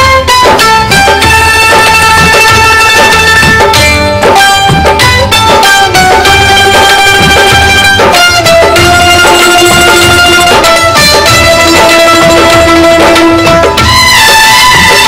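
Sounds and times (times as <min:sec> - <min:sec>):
melody instruments on held notes: 0:00.0 - 0:15.0
steady drum beat: 0:00.0 - 0:15.0.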